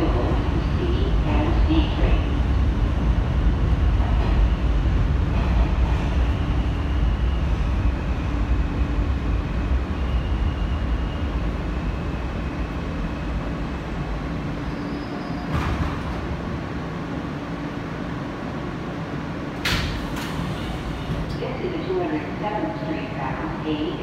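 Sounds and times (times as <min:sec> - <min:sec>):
subway car rumbling on tracks: 0:00.0 - 0:24.0.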